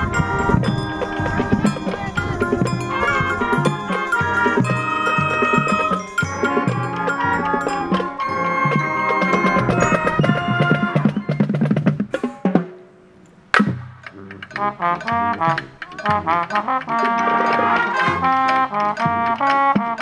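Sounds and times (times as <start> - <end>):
marching band playing: 0.0 - 12.8, 13.6 - 20.0
quick drum strikes: 0.0 - 12.9, 13.5 - 20.0.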